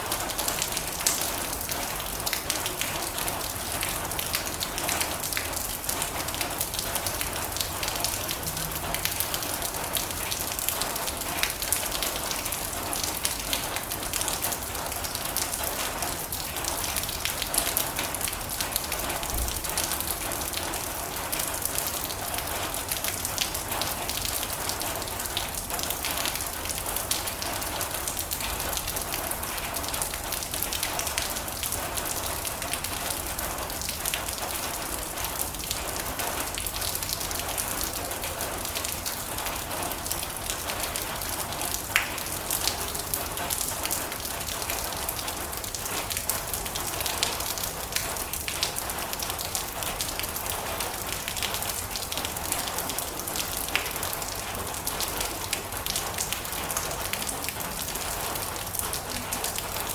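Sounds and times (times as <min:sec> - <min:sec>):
rain drumming on a metal roof: 0:00.0 - 0:59.9.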